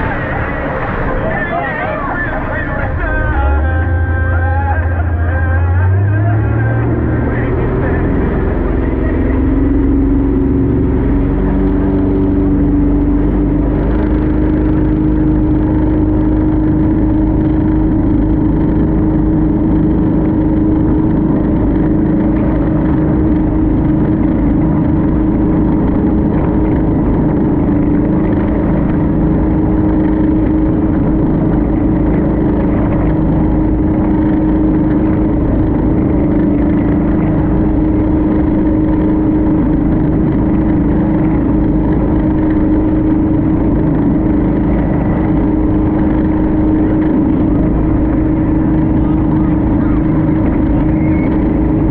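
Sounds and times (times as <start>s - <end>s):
speedboat engine running hard: 0.0s - 51.9s.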